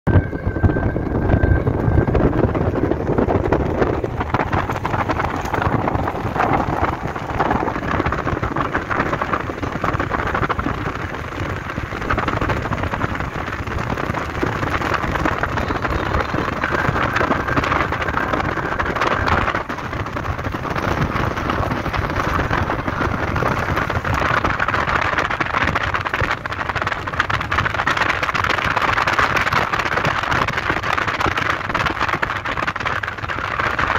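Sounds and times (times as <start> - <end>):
road and wind noise inside car: 0.1 - 33.9.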